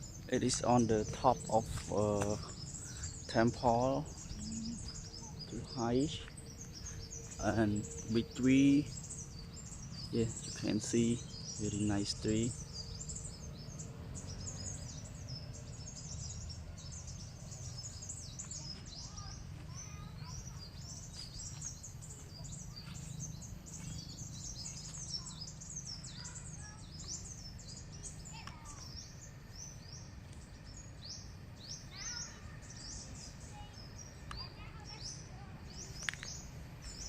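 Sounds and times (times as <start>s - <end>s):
steady low rumble: 0.0s - 31.8s
birds chirping and calling: 0.0s - 37.0s.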